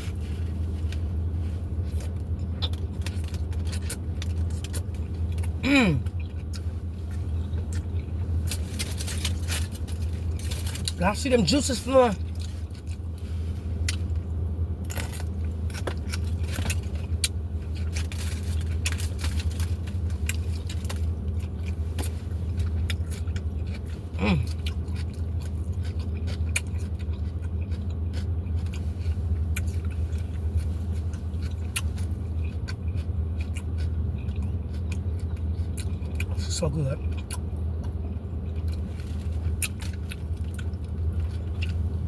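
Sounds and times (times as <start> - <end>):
low hum: 0.0 - 42.0
person chewing food: 0.0 - 42.0.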